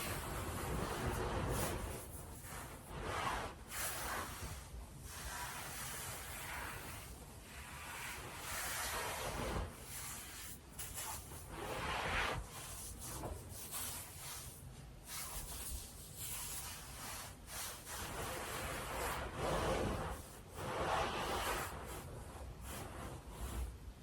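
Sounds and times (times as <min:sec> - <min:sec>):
stockings rubbing against bedding: 0:00.0 - 0:24.0.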